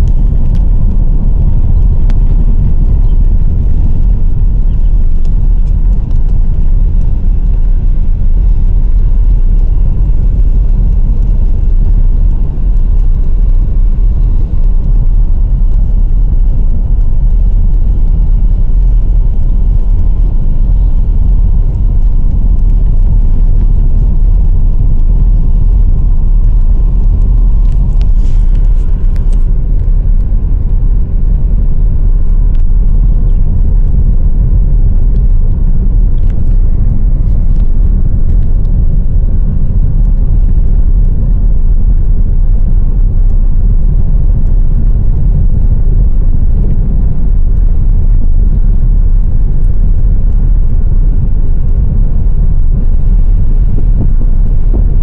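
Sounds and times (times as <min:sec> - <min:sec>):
car interior road rumble: 0:00.0 - 0:55.0.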